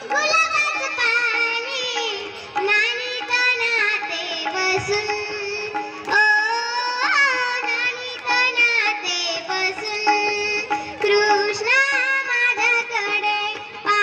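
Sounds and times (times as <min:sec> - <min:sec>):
instrumental accompaniment: 0:00.0 - 0:14.0
girl singing folk song: 0:00.1 - 0:14.0.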